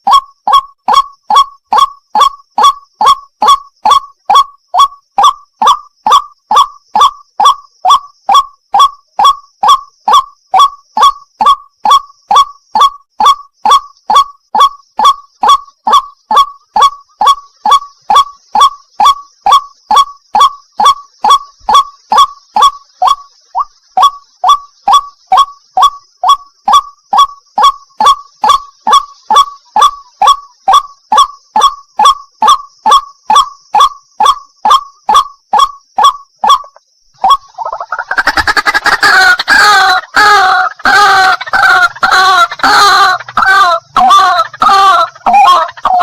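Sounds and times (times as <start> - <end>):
chorus of gurgling bird calls: 0.0 - 46.0.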